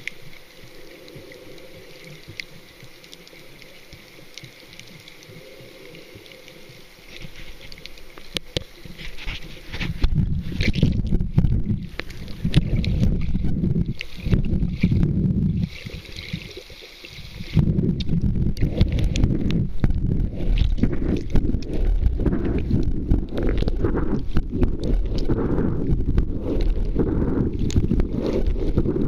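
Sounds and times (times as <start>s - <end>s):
muffled rumbling water: 0.0s - 29.0s.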